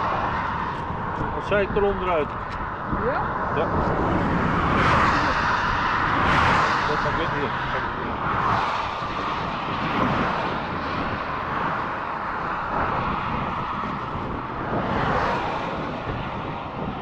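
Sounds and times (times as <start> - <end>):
motorway traffic passing: 0.0 - 17.0.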